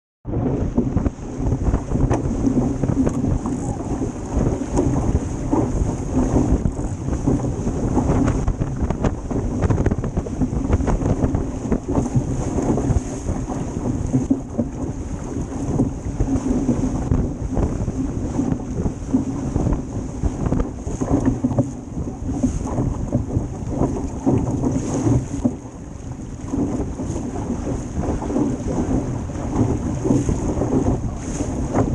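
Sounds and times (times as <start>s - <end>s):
water rushing along hull: 0.2s - 31.9s
wind buffeting microphone: 0.2s - 31.9s.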